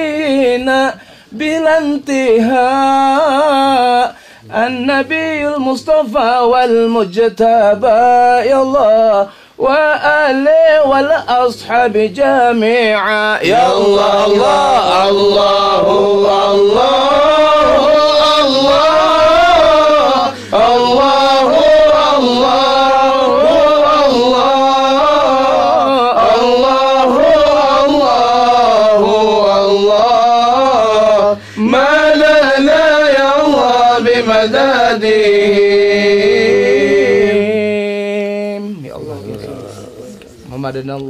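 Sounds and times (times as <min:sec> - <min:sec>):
man singing a devotional chant: 0:00.0 - 0:40.0.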